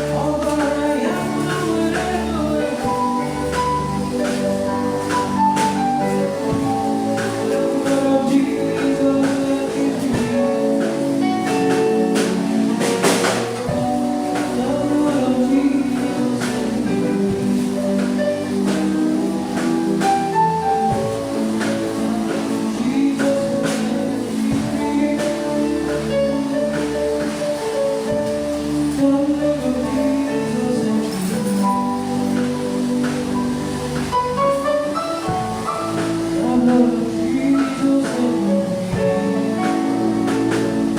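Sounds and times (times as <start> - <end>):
held worship music chords: 0.0 - 40.9.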